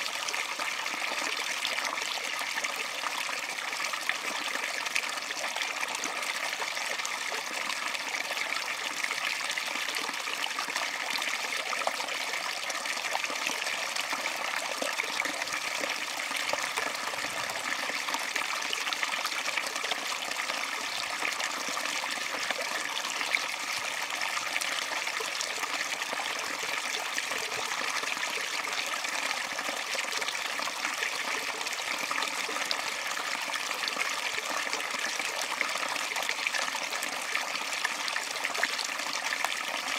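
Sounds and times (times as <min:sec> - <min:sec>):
stream water spilling through rocks: 0:00.0 - 0:39.9.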